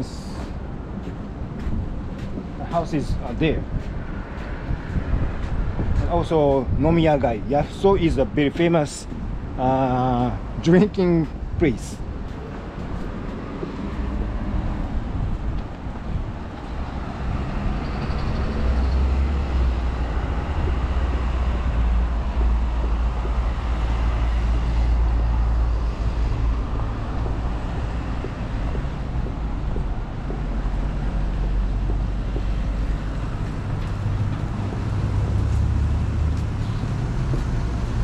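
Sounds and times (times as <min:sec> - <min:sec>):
low rumble of vehicles: 0:00.0 - 0:38.0.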